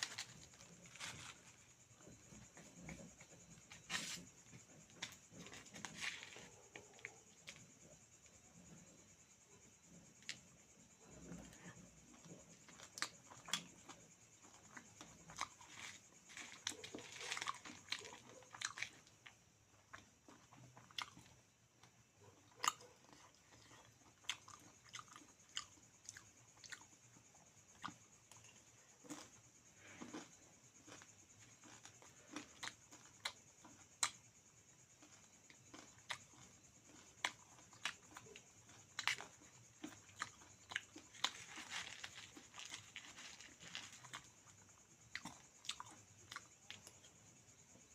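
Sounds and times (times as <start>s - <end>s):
person chewing and crunching food: 0.0s - 9.0s, 9.8s - 47.9s.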